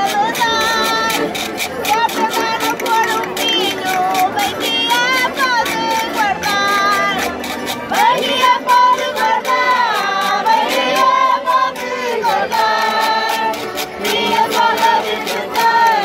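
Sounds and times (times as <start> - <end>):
button accordion playing: 0.0 - 16.0
steady clicking beat: 0.0 - 16.0
women singing folk song: 0.0 - 16.0.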